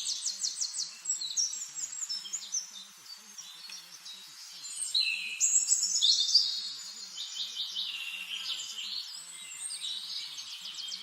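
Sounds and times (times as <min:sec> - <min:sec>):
songbirds chirping and trilling: 0:00.0 - 0:11.0.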